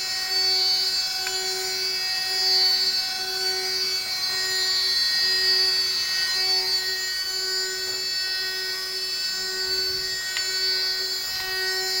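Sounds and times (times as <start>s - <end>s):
milling spindle whine: 0.0s - 12.0s.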